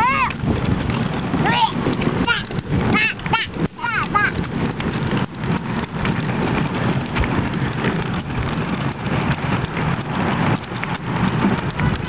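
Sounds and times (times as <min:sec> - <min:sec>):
toy wagon wheels rolling on asphalt: 0:00.0 - 0:12.0.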